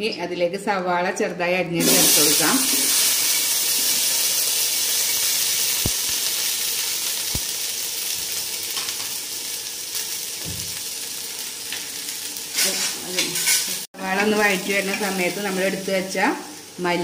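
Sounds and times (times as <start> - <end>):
onion sizzling in oil: 1.8 - 17.0.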